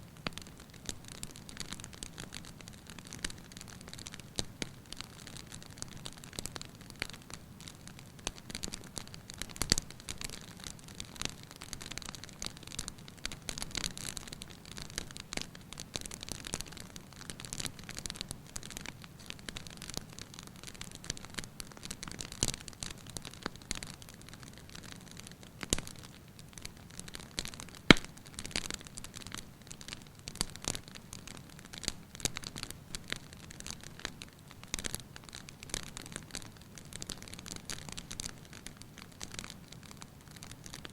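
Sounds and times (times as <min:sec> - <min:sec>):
fire crackling: 0:00.1 - 0:40.9
fire popping: 0:00.1 - 0:40.9.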